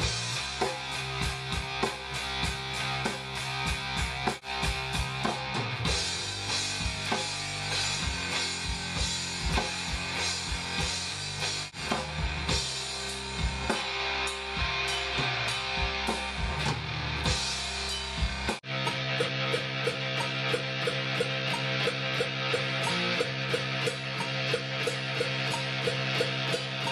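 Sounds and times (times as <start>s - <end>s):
heavy rock music: 0.0s - 26.9s.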